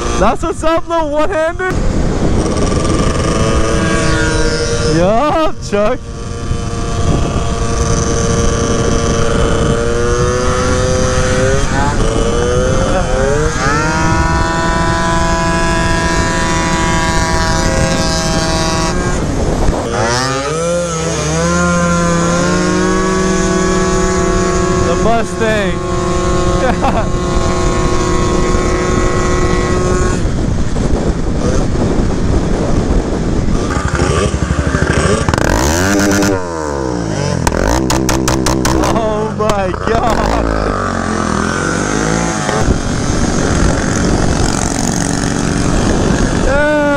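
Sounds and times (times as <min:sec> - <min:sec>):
road rumble: 0:00.0 - 0:46.9
scooter engine whining at high revs: 0:00.0 - 0:46.9
wind: 0:00.0 - 0:46.9.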